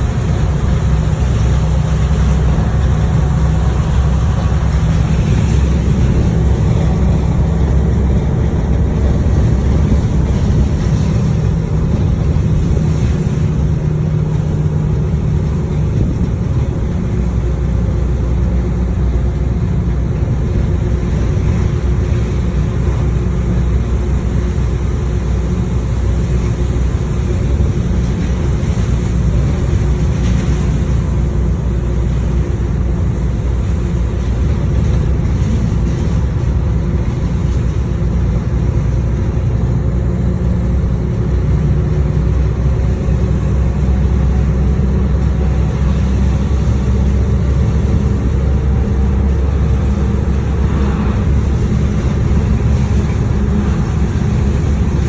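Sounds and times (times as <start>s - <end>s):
vehicle rumble: 0.0s - 55.0s.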